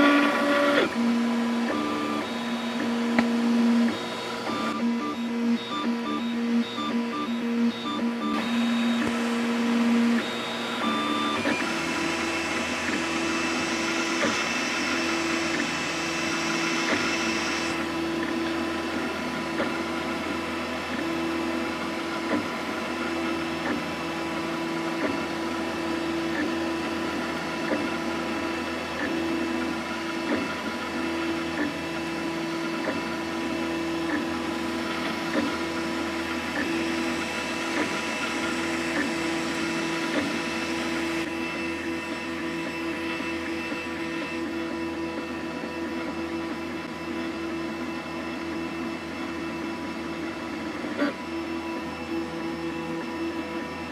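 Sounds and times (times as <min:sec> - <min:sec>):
stepper motors whining: 0:00.0 - 0:53.9.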